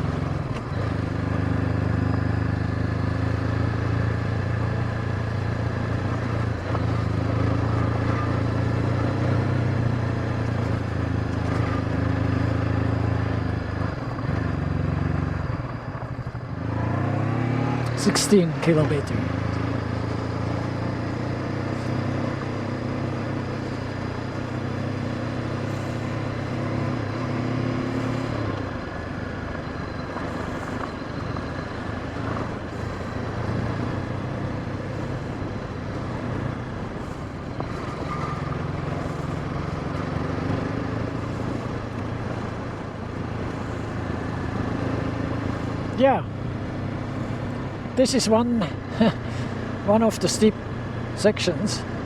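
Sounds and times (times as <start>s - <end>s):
motorcycle engine at low revs: 0.0s - 52.0s.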